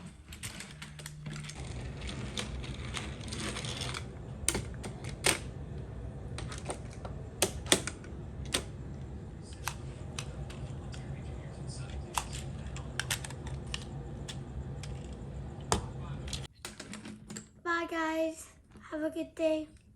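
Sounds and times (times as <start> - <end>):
low steady rumble: 0.0 - 16.5.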